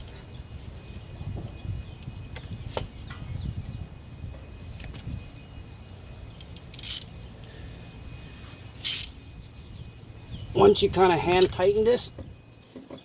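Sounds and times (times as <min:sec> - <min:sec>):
low steady rumble: 0:00.0 - 0:12.7.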